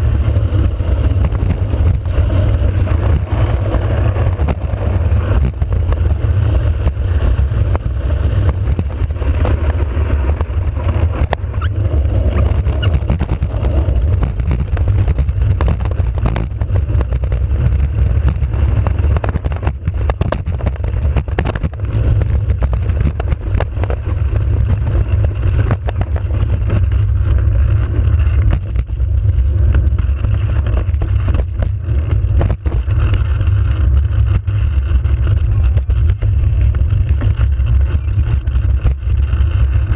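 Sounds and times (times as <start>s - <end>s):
wheels rumbling on asphalt: 0.0s - 39.9s.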